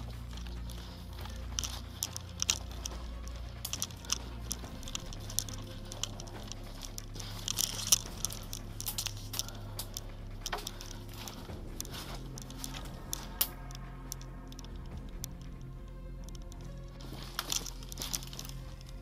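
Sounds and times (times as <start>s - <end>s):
footsteps through dry grass: 0.0s - 19.0s
low hum: 0.0s - 19.0s.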